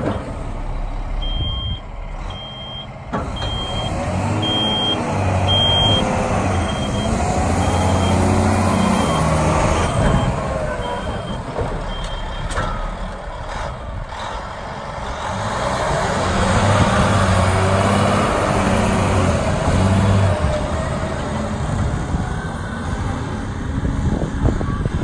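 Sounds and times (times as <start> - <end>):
diesel truck driving past: 0.0 - 25.0.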